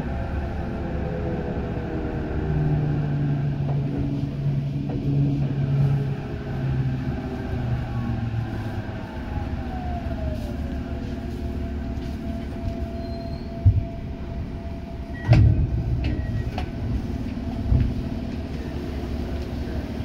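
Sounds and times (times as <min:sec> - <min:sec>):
subway train rumbling on rails: 0:00.0 - 0:20.0
train motor whine: 0:00.0 - 0:20.0.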